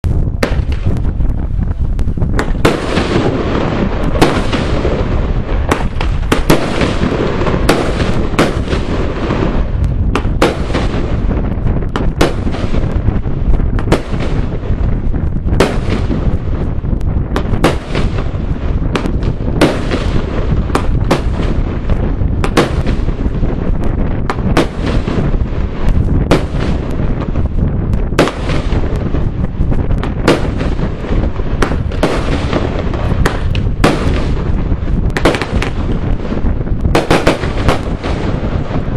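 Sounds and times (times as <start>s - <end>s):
firework shells bursting with bangs: 0.1s - 38.9s.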